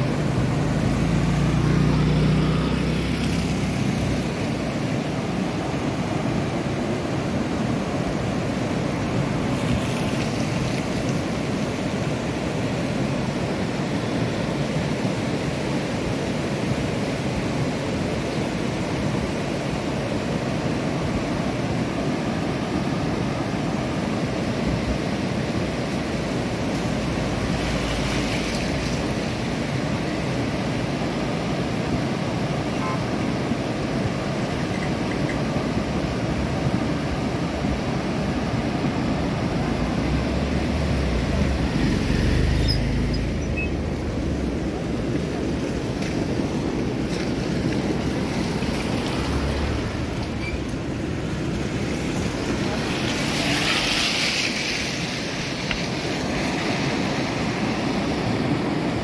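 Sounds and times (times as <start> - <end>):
rushing river roar: 0.0 - 59.0.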